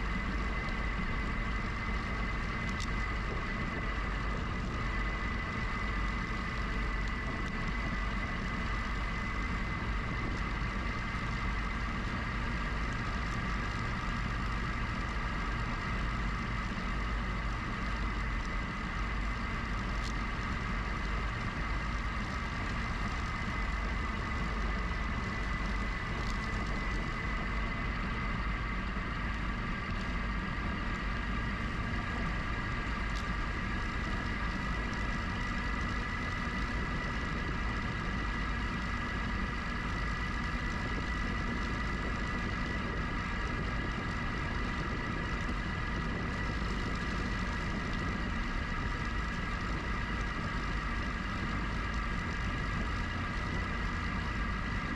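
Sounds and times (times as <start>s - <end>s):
electric bike motor whine: 0.0s - 54.9s
wind and tyre rumble: 0.0s - 54.9s.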